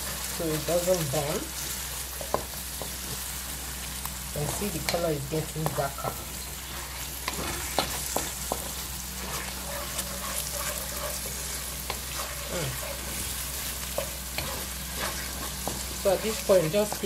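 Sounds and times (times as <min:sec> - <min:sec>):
sauce sizzling in a wok: 0:00.0 - 0:17.0
wooden spoon stirring and scraping: 0:00.0 - 0:17.0.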